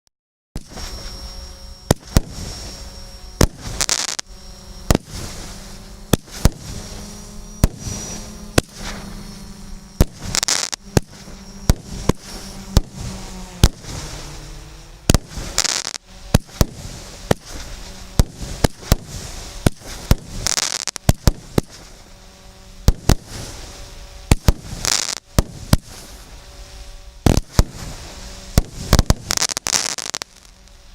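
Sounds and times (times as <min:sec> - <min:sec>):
firework shots firing: 0:00.6 - 0:01.1, 0:01.9 - 0:02.7, 0:03.4 - 0:22.2, 0:22.8 - 0:26.4, 0:27.2 - 0:30.6.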